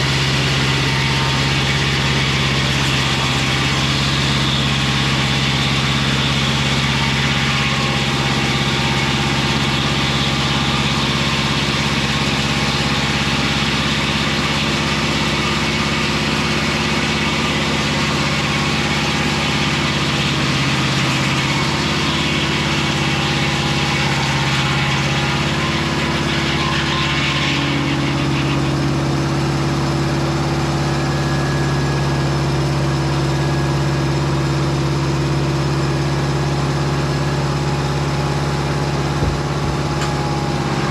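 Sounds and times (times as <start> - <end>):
saw blade rushing noise: 0.0 - 40.9
sawmill engine humming: 0.0 - 40.9.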